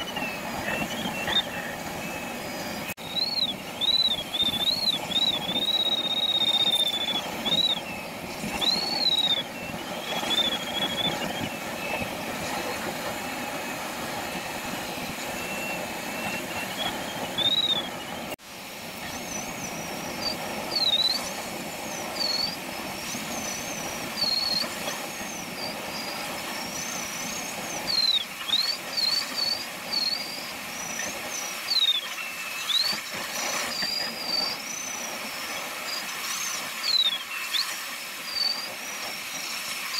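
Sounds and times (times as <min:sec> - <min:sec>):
airflow hiss: 0:01.5 - 0:39.9.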